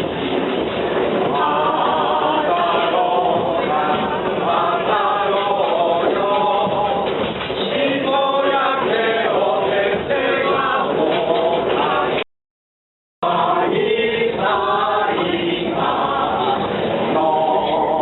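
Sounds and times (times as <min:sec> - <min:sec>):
group singing in unison: 0:01.2 - 0:12.3, 0:13.2 - 0:18.0.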